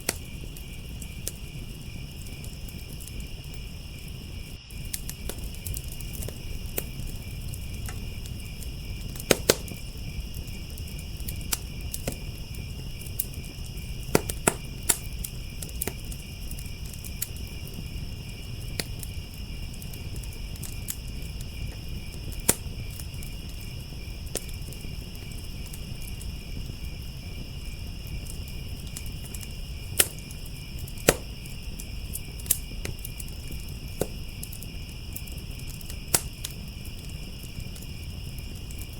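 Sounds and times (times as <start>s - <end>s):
crickets trilling: 0.0s - 38.9s
wood fire crackling and popping: 0.0s - 38.9s.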